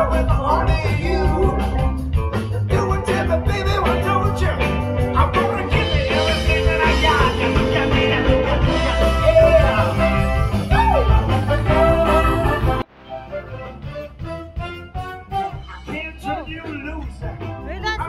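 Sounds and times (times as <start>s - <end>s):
live band playing upbeat music: 0.0s - 18.0s.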